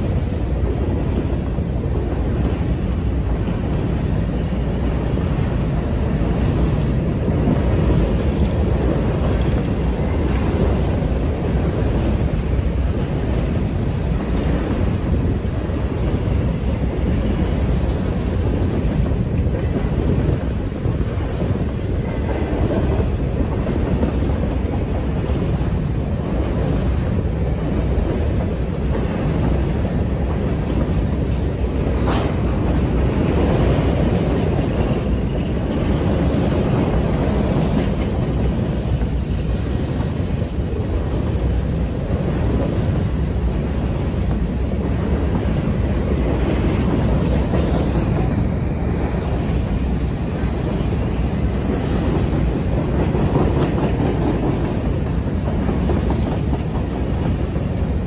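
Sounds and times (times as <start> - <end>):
train wheels rolling on rail: 0.0 - 58.0.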